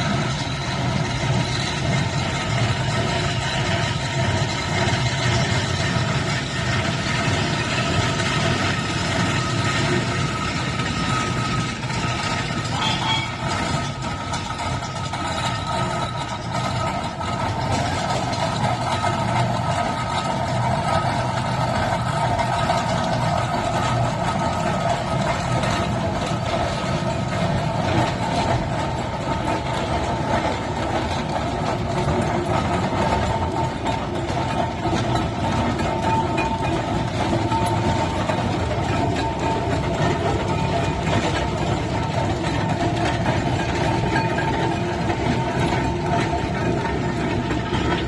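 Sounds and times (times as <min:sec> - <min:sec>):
steam engine running: 0:00.0 - 0:48.0.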